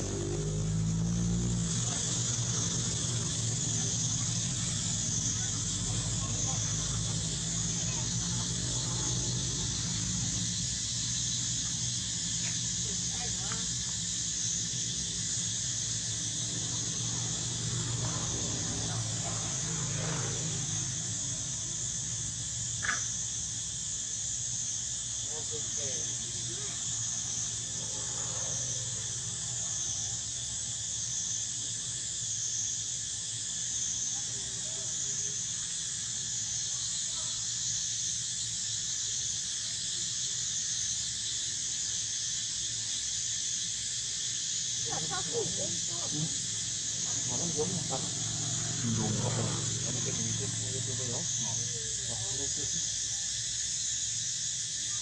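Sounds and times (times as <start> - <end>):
chorus of forest insects: 0.0 - 55.0
steady high hiss: 0.0 - 55.0.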